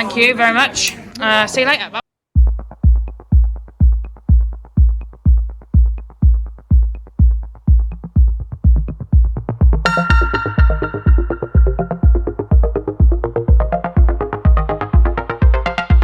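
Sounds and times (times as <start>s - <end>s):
deep kick drum beat: 2.4s - 16.0s.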